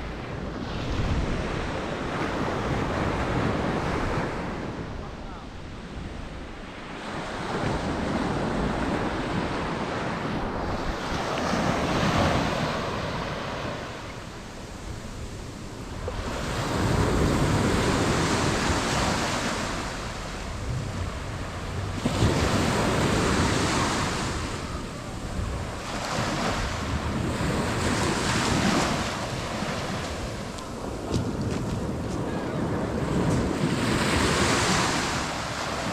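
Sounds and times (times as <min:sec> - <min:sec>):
wind buffeting microphone: 0:00.0 - 0:35.9
ocean waves breaking: 0:06.4 - 0:35.9.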